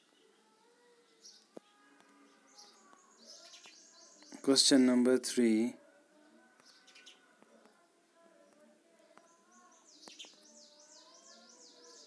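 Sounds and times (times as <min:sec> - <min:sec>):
faint bird song: 0:00.0 - 0:12.0.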